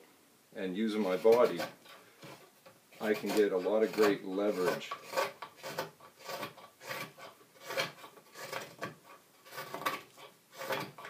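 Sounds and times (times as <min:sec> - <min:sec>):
knife rasping wood shavings: 0:01.0 - 0:11.0.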